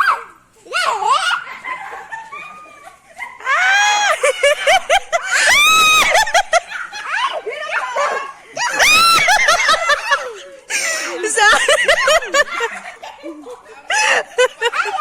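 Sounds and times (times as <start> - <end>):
people screaming: 0.0 - 12.8
people laughing: 1.2 - 15.0.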